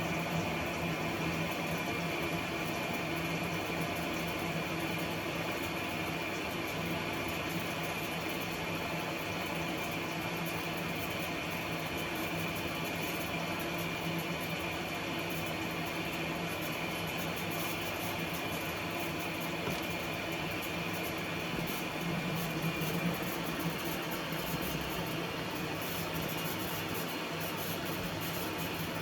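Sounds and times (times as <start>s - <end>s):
appliance humming with whine: 0.0s - 29.0s.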